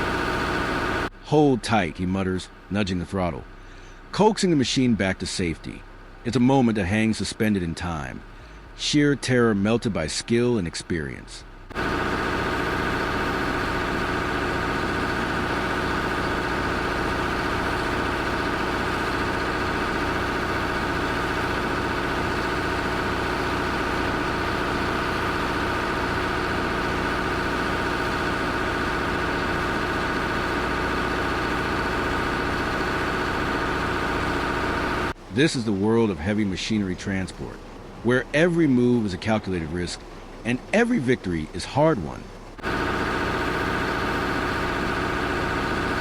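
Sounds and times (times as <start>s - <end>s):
heavy equipment engine running: 0.0s - 46.0s.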